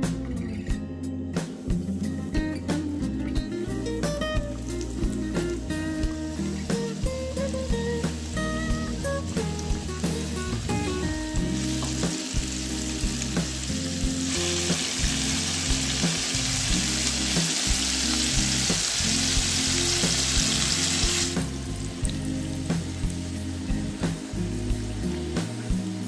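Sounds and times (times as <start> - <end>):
background music with beat: 0.0 - 26.0
food sizzling in hot oil: 3.7 - 26.0.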